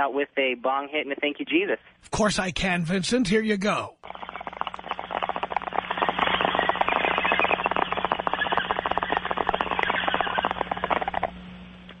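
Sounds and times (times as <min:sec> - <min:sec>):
steady low hum: 0:01.8 - 0:12.0.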